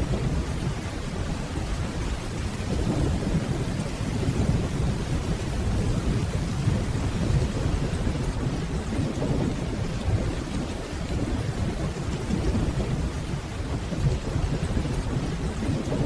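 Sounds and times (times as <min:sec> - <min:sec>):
distant rolling thunder: 0:00.0 - 0:16.0
steady rainfall: 0:00.0 - 0:16.0.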